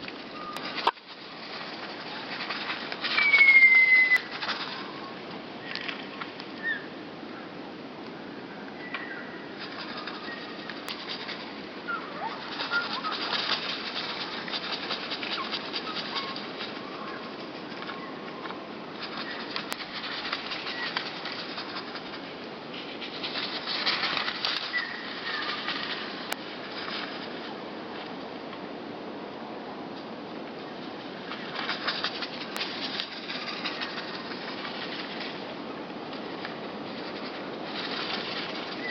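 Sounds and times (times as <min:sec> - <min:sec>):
small birds fluttering wings: 0:00.0 - 0:07.0, 0:09.0 - 0:28.2, 0:30.5 - 0:38.9.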